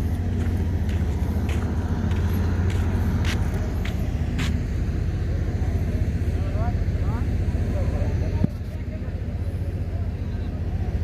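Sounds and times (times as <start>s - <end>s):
generators droning: 0.0s - 11.0s.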